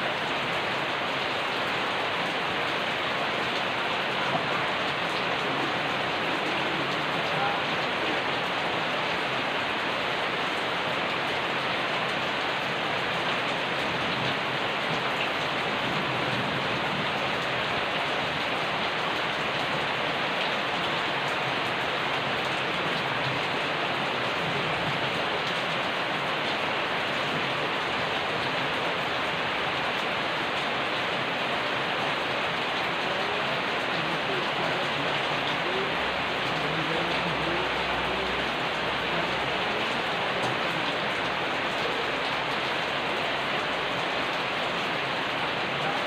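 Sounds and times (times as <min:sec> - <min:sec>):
steady rain pattering: 0:00.0 - 0:46.0.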